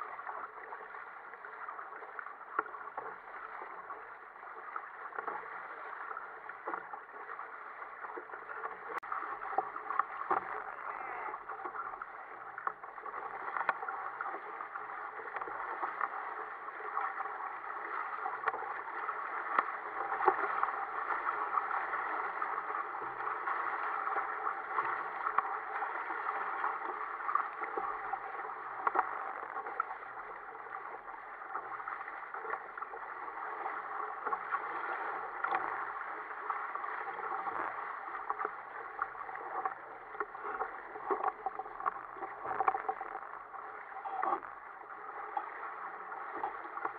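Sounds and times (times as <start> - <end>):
water rushing along a hull: 0.0 - 46.9.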